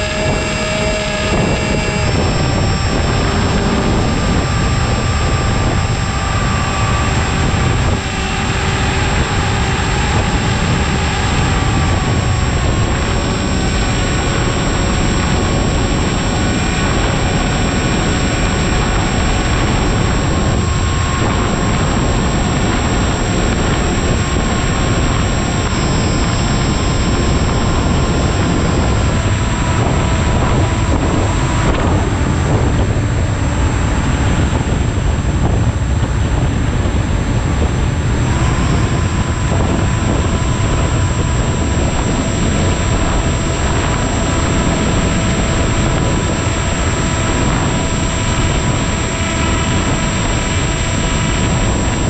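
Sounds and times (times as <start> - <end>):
electric motor and propeller whining: 0.0 - 52.0
wind rush: 0.0 - 52.0.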